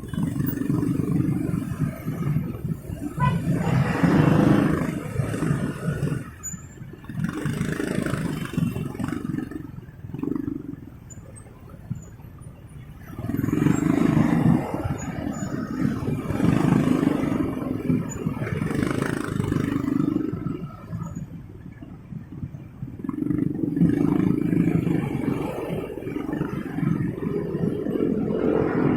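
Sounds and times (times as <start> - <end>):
motorcycle engine and road rumble: 0.0 - 28.9.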